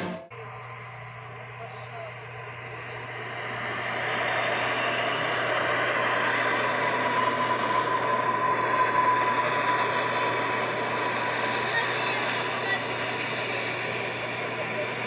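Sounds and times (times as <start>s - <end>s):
high steady whine: 0.0s - 15.0s
steady rushing noise: 2.1s - 15.0s.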